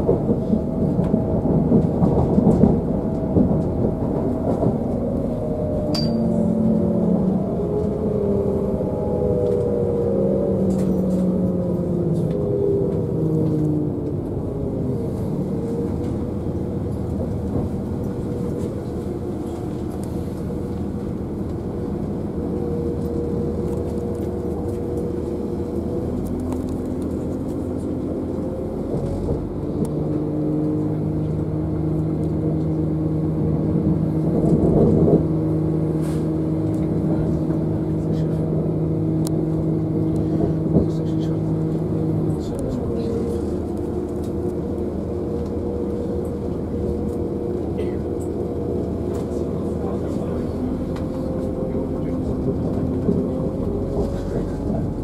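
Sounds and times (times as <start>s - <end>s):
humming drone: 0.0s - 55.0s
train running rumble: 0.0s - 55.0s.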